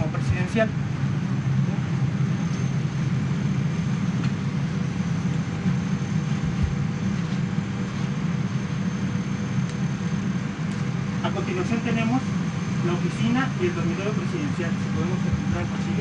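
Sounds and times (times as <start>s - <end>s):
cabin air system rumbling hum: 0.0s - 16.0s
faint thin whine: 0.0s - 16.0s.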